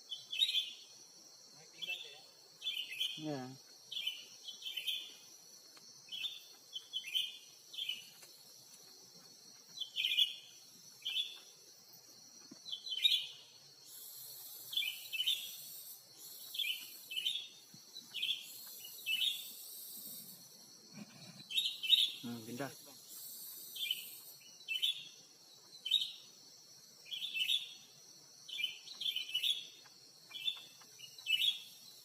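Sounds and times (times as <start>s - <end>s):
bird chirping: 0.0s - 0.9s, 1.7s - 5.3s, 6.0s - 8.3s, 9.6s - 11.6s, 12.6s - 20.0s, 21.0s - 26.4s, 27.0s - 32.0s
high insect hiss: 0.0s - 32.0s.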